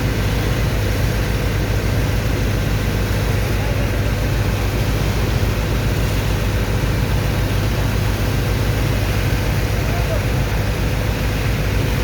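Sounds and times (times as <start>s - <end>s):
heavy pump engine droning: 0.0s - 12.0s.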